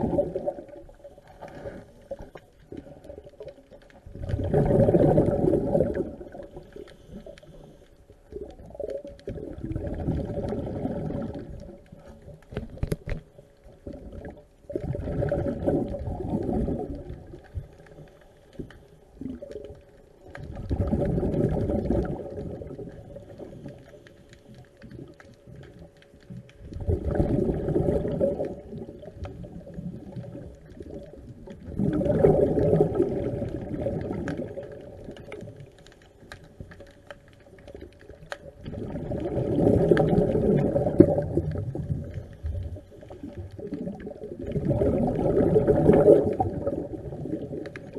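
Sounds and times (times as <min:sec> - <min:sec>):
regulator bubbles gurgling: 0:00.0 - 0:47.9.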